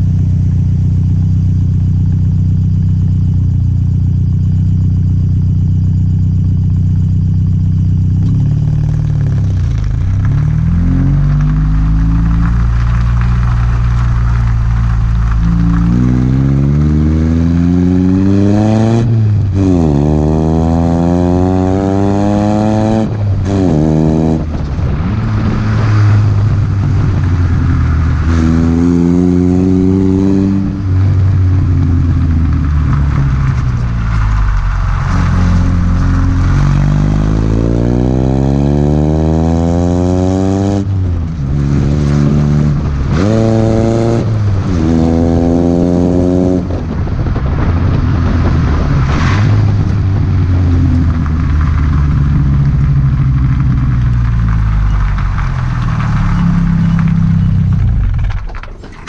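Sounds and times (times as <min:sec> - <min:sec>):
pickup engine accelerating through gears: 0:04.2 - 0:59.0.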